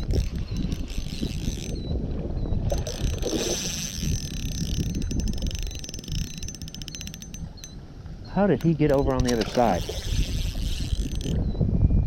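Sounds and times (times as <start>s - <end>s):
fishing reel clicking: 0.0s - 1.9s, 2.7s - 7.8s, 8.6s - 11.4s
water sounds: 0.0s - 11.4s
wind rumbling on microphone: 0.0s - 12.0s.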